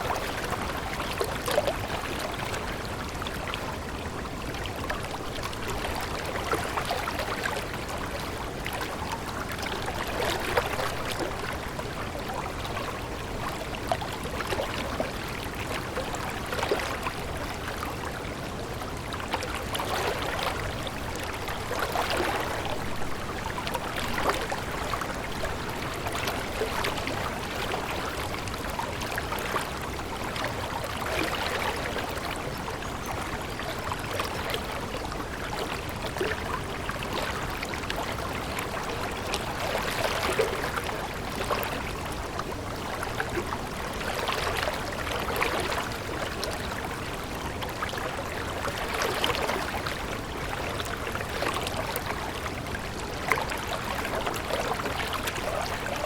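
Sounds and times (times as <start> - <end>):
stream water flowing: 0.0 - 56.0
water splashing and gurgling: 0.0 - 56.0.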